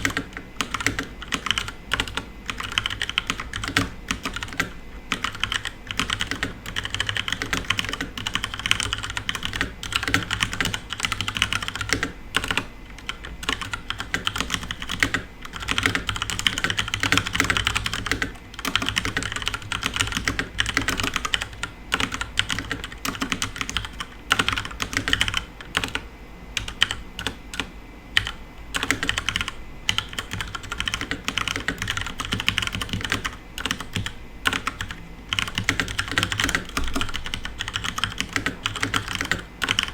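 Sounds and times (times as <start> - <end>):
mechanical keyboard typing: 0.0 - 26.0, 26.6 - 39.9.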